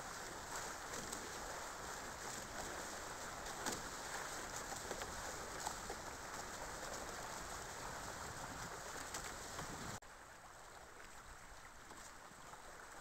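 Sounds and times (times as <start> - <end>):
water rushing along hulls: 0.0 - 13.0.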